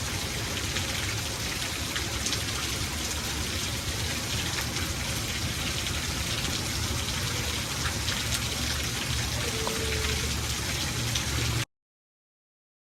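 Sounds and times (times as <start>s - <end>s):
rain drops pattering: 0.0s - 11.7s.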